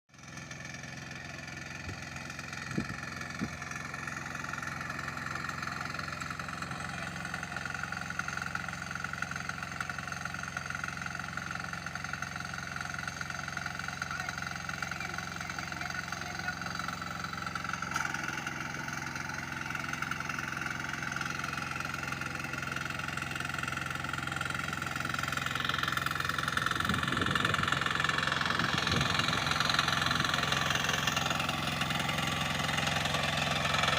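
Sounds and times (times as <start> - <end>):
harvester engine running: 0.2 - 33.9.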